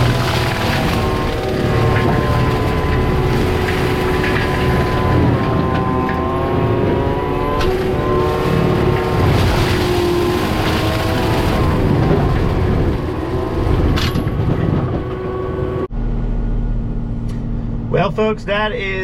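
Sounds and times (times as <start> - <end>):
engine and mulcher whining: 0.0 - 19.0.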